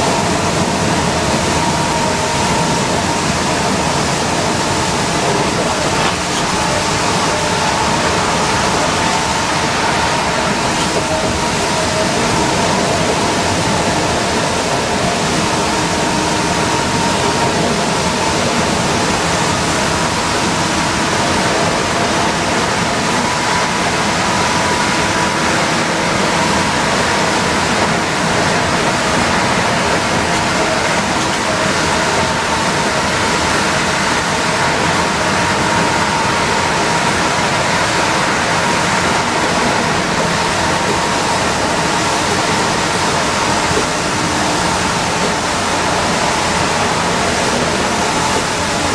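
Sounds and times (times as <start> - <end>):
bus drivetrain running: 0.0 - 48.9
wet tyre and road noise: 0.0 - 48.9.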